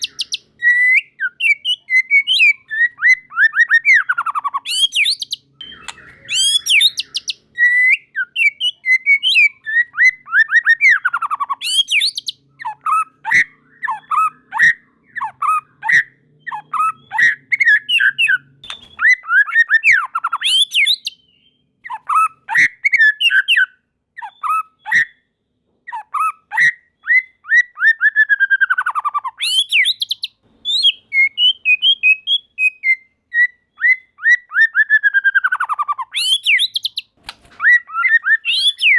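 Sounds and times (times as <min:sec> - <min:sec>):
songbird singing whistles and chirps: 0:00.0 - 0:38.9.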